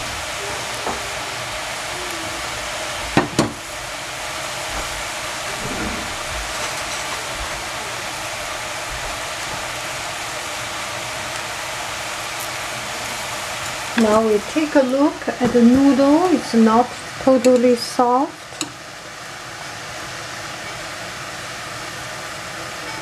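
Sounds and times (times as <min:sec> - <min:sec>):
cabbage sizzling in saucepan: 0:00.0 - 0:05.6, 0:06.4 - 0:23.0.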